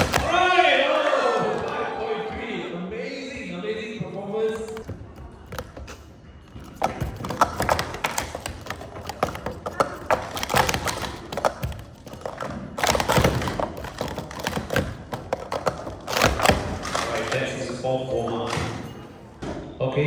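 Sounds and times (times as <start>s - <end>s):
plastic cups clattering on table: 0.0s - 1.9s, 4.4s - 19.4s.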